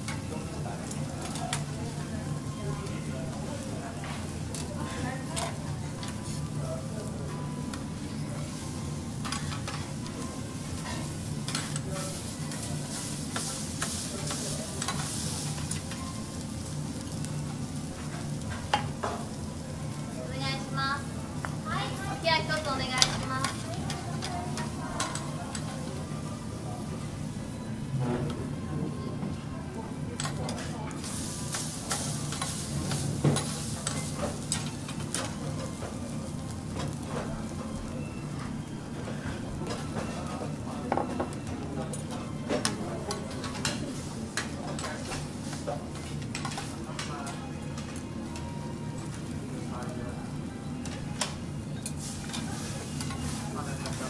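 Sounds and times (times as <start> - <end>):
food sizzling on a griddle: 0.0 - 54.0.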